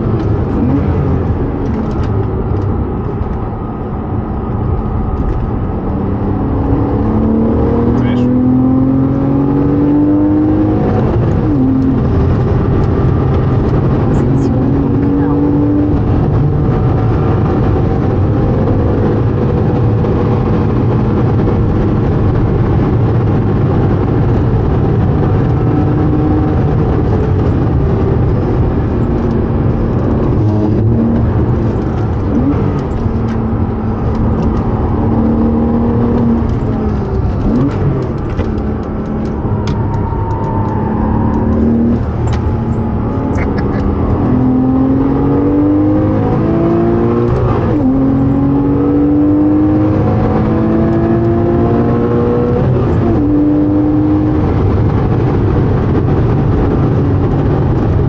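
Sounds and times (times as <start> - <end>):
car engine pulling hard: 0.0 - 58.0
road and wind noise: 0.0 - 58.0.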